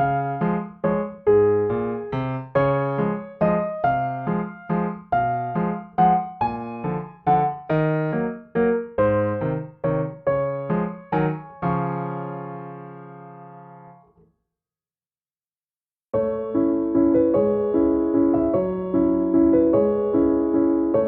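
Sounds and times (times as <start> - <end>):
piano music: 0.0 - 14.2, 16.2 - 21.0.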